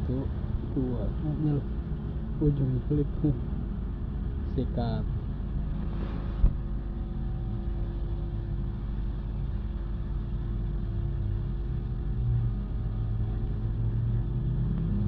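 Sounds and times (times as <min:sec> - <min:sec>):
mechanical motor rumble: 0:00.0 - 0:15.0.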